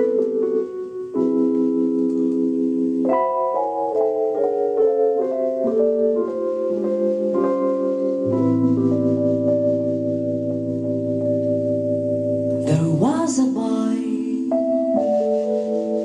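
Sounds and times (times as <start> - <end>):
jazz piano chords: 0.0 - 16.0.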